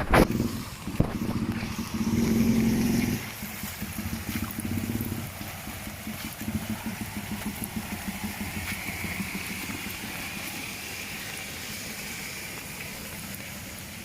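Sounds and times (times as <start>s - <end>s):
motorcycle engine at low revs: 0.0s - 14.0s
rain hissing: 0.0s - 14.0s.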